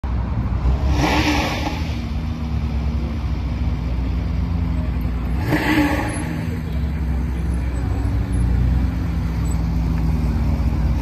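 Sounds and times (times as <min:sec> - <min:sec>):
car exhaust drone: 0:00.3 - 0:11.0.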